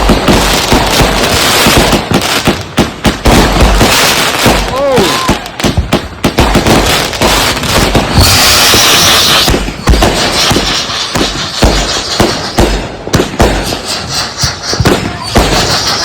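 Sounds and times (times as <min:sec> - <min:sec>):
firework hiss: 0:00.0 - 0:16.0
fireworks bangs and booms: 0:00.0 - 0:16.0.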